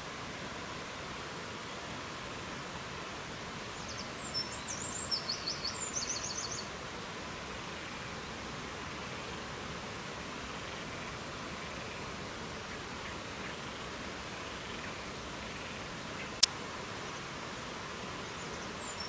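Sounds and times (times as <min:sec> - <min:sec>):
rushing hiss of wind or water: 0:00.0 - 0:19.0.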